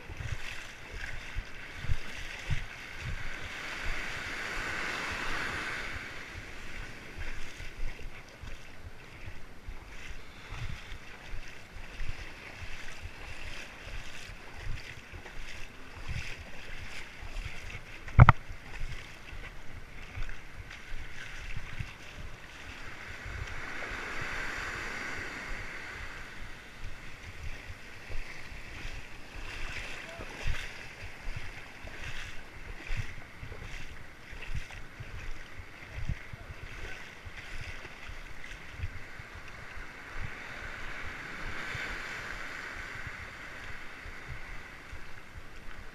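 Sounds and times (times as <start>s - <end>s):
waves washing over sand: 0.0s - 45.9s
wind buffeting microphone: 0.0s - 45.9s.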